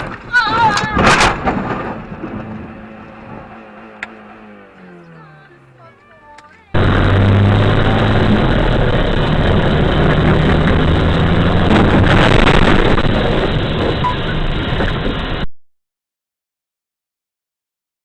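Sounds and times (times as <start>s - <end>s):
vehicle engine and road noise: 0.0s - 15.5s.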